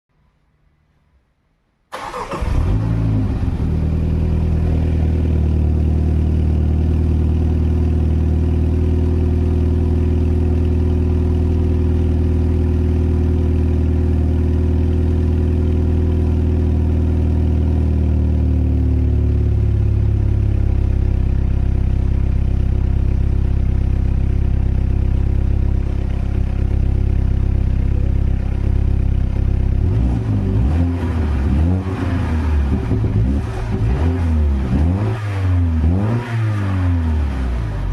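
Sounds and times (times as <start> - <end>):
car engine starting and idling: 1.9 - 37.9.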